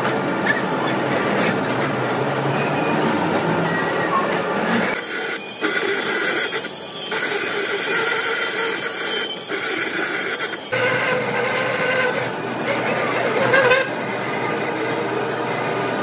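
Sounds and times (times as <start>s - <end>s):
lathe cutting metal screeching: 1.0s - 16.0s.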